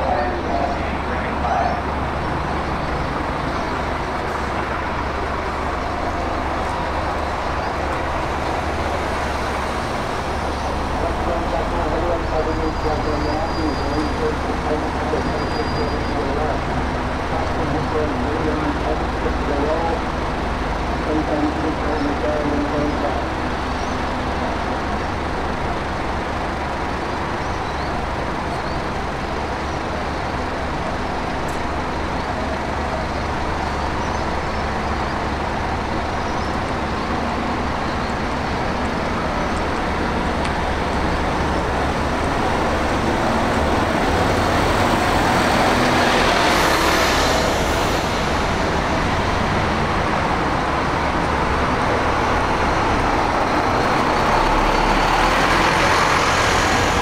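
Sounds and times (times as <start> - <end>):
bus engines droning: 0.0 - 57.0.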